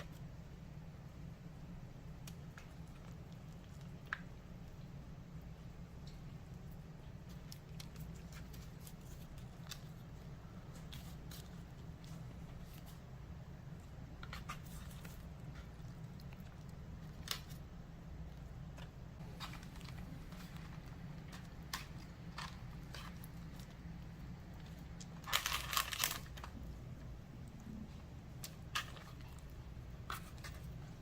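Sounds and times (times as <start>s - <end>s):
low steady hum: 0.0s - 31.0s
crinkling: 2.0s - 31.0s.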